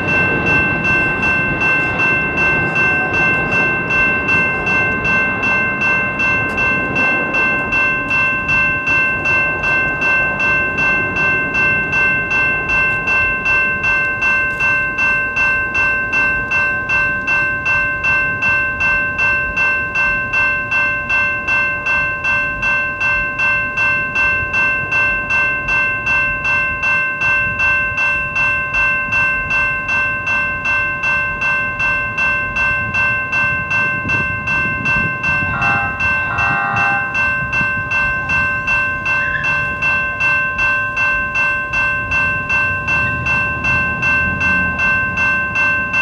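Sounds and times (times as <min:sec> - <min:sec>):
electronic crossing bells ringing: 0:00.0 - 0:46.0.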